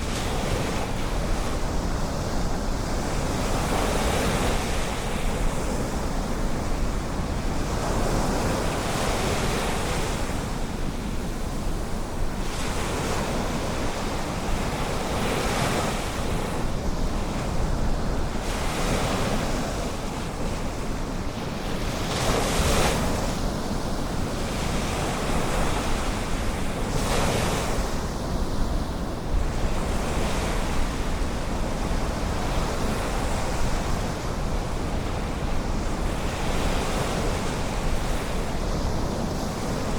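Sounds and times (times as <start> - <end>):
ocean waves breaking on beach: 0.0 - 39.9
wind rumble on microphone: 0.0 - 39.9.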